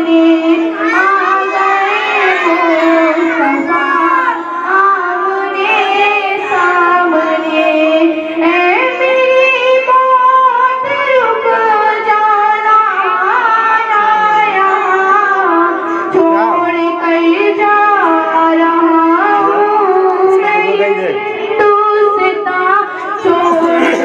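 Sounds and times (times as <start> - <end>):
woman singing devotional song: 0.0 - 24.0.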